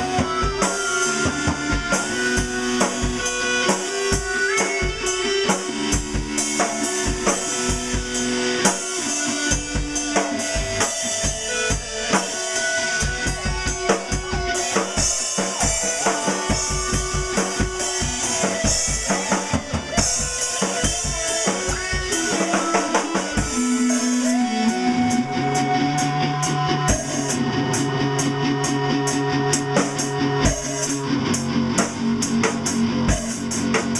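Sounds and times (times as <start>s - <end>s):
held guitar notes: 0.0s - 33.7s
bass notes: 0.0s - 33.9s
drum kit beat: 0.0s - 33.9s.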